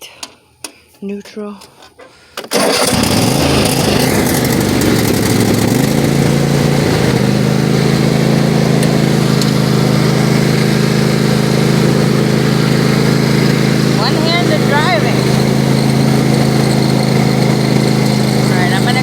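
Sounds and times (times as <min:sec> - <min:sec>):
riding lawnmower engine running: 0:02.5 - 0:19.0.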